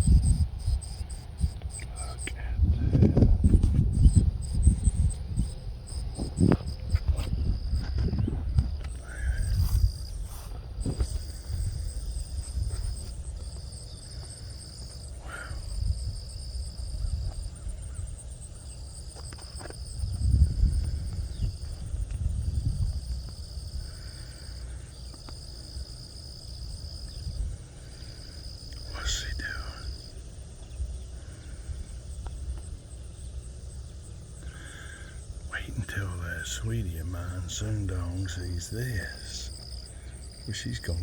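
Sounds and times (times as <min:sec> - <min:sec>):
insects buzzing trill: 0:00.0 - 0:41.0
insects chirring: 0:00.0 - 0:41.0
wind rumbling on microphone: 0:00.0 - 0:41.0.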